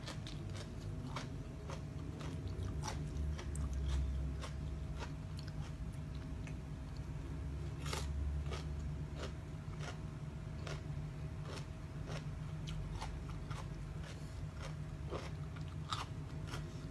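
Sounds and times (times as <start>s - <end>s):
person chewing crunchy food: 0.0s - 16.9s
steady low hum: 0.0s - 16.9s.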